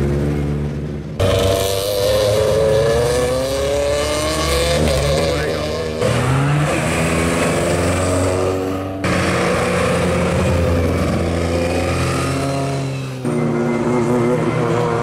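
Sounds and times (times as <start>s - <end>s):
rally car engine revving hard: 1.2s - 15.0s.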